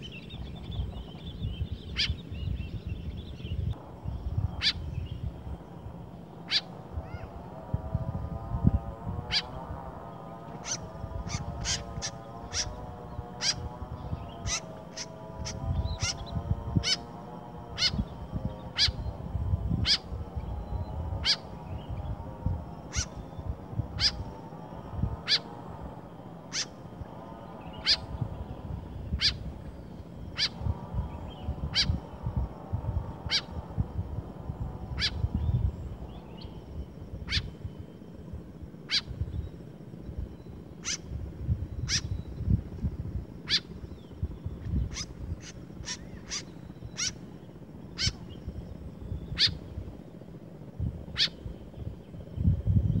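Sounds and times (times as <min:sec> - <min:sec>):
birds giving sharp high calls: 0:00.0 - 0:52.5.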